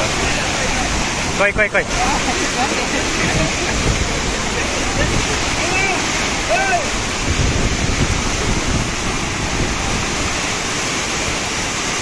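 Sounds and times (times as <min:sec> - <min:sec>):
flood water rushing: 0:00.0 - 0:12.0.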